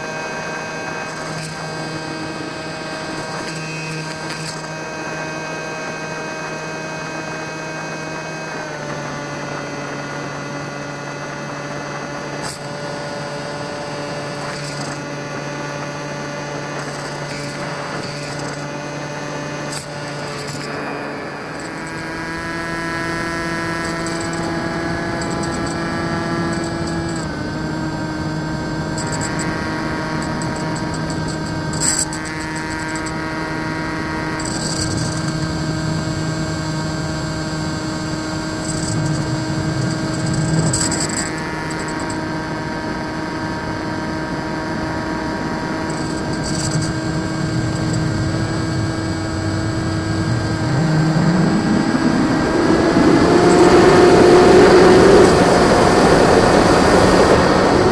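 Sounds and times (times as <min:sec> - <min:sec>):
electric motor and propeller whine: 0:00.0 - 0:57.9.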